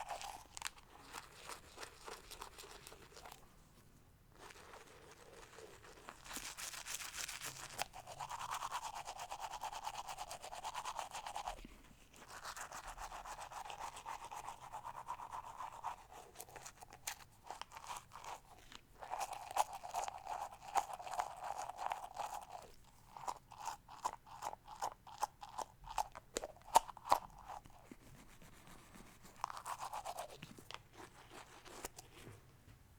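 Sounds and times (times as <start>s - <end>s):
toothbrush scrubbing teeth: 0.0s - 3.5s, 4.4s - 32.3s.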